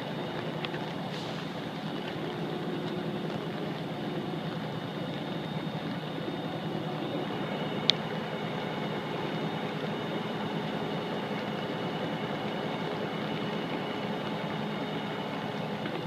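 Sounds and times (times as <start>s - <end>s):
fire engine running: 0.0s - 16.0s.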